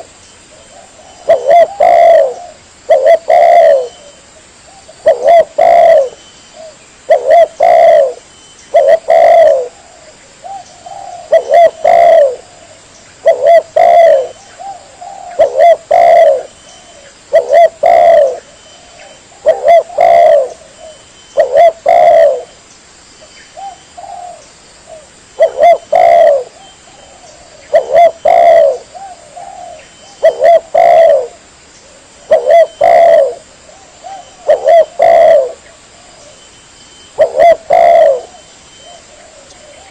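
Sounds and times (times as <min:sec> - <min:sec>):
dove cooing: 0:00.0 - 0:22.6, 0:23.6 - 0:36.5, 0:37.1 - 0:39.9.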